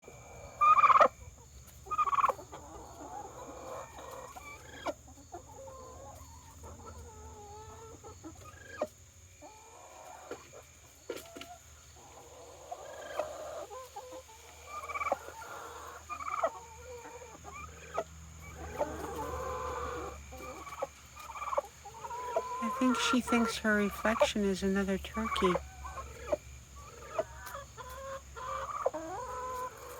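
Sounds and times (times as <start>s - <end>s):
turkey clucking and warbling: 0.2s - 10.6s, 11.4s - 29.9s.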